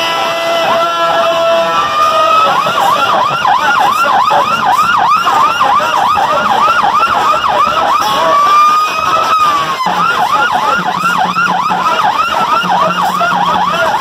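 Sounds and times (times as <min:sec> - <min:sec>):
siren whooping through speakers: 0:00.0 - 0:14.0.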